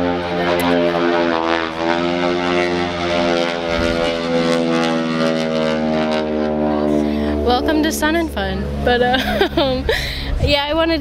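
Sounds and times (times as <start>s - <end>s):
propeller airplane engine drone: 0.0s - 11.0s.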